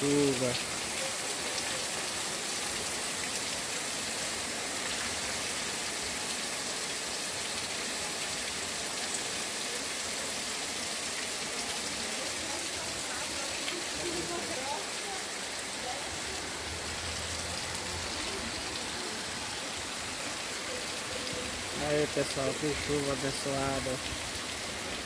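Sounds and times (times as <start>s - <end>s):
heavy rain on a street: 0.0s - 25.0s.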